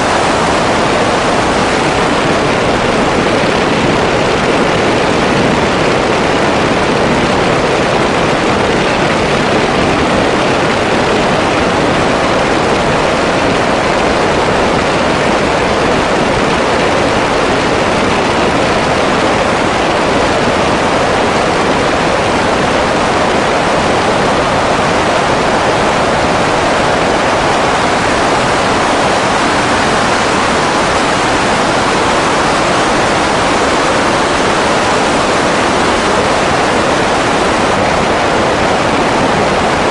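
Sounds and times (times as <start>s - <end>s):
seaplane engine and wind rushing: 0.0s - 39.9s.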